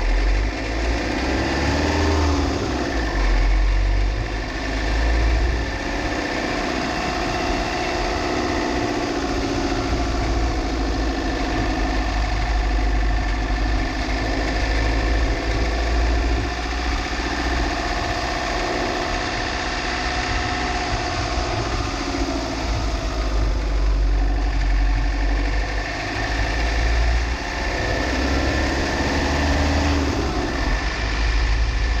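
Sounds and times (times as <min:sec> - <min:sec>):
car engine and road noise: 0:00.0 - 0:32.0
heavy low rumble: 0:00.0 - 0:32.0.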